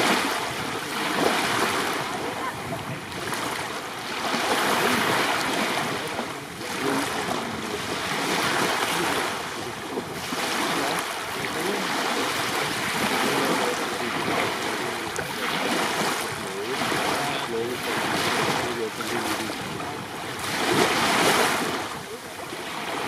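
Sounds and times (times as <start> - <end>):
small waves washing on sand: 0.0 - 23.0.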